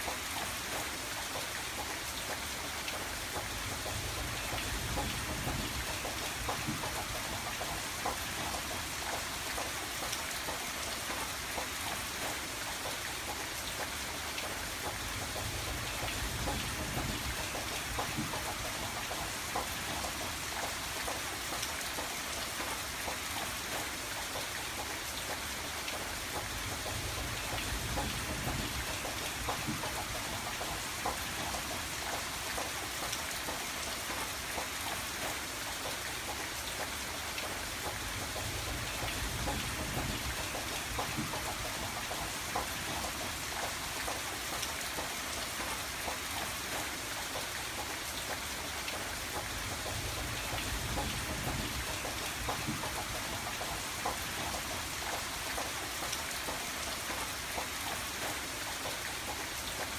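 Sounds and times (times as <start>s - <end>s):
rain on a window pane: 0.0s - 59.9s.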